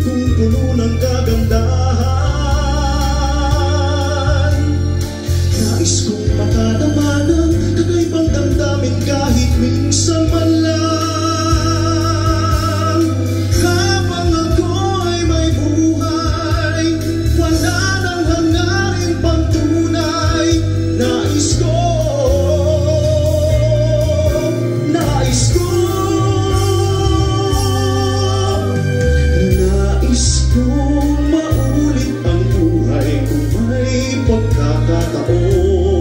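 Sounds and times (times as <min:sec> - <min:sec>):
instrumental accompaniment: 0:00.0 - 0:36.0
man singing a ballad: 0:00.0 - 0:36.0.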